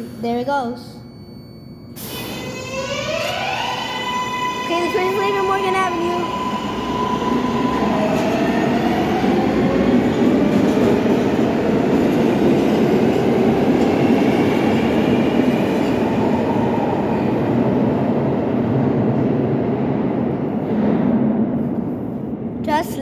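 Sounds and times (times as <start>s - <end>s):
train wheels rumbling on rails: 4.6s - 23.0s.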